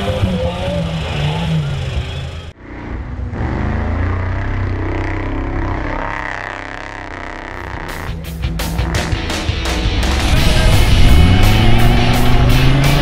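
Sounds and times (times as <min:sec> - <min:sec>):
buggy engines revving: 0:00.0 - 0:13.0.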